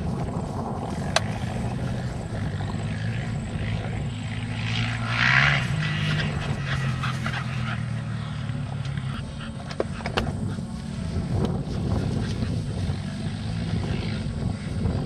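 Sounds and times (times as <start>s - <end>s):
dirt bike engine passing: 0.0s - 15.0s.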